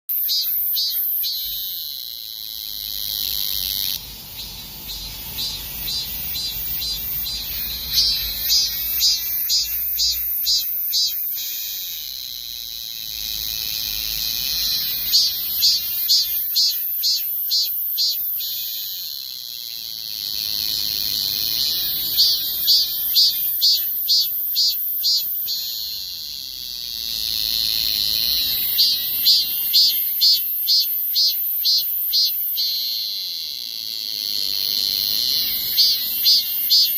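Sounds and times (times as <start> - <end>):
cicada buzzing: 0.1 - 36.9.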